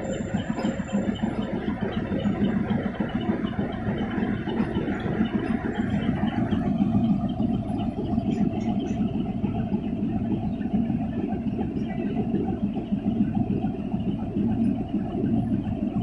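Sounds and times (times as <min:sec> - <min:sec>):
diesel locomotive engine idling: 0:00.0 - 0:16.0.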